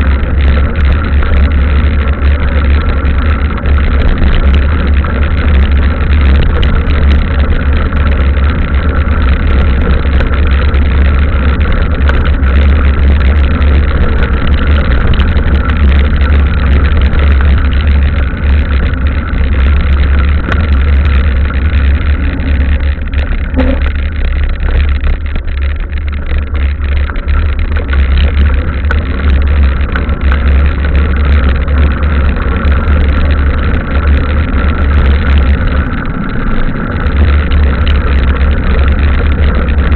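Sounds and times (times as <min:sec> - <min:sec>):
wind and riding noise on microphone: 0:00.0 - 0:39.9.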